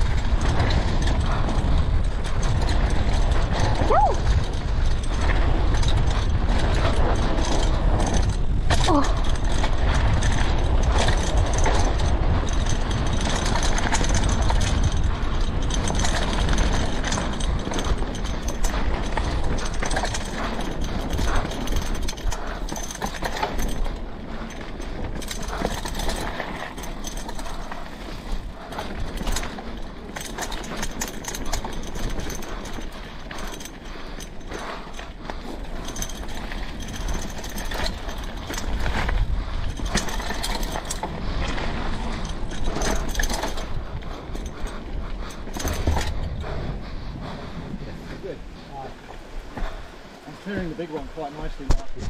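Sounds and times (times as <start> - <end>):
bike rattling and knocking: 0.0 - 52.0
bike tyres on dirt and stones: 0.0 - 52.0
wind rumble on microphone: 0.0 - 52.0.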